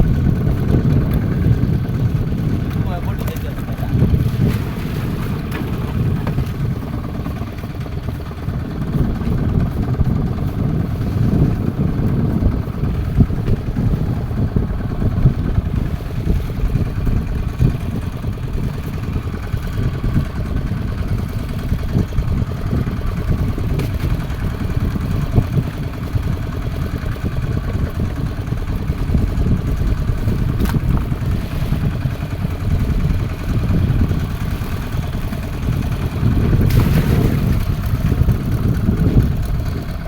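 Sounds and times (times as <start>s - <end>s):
boat engine rumbling: 0.0s - 40.0s.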